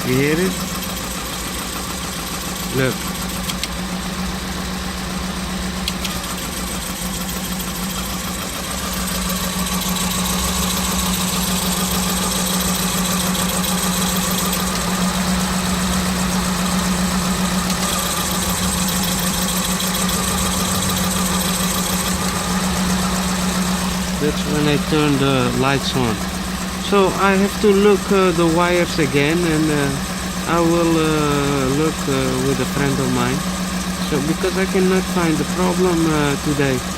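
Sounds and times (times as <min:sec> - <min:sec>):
car engine idling rough: 0:00.0 - 0:36.9.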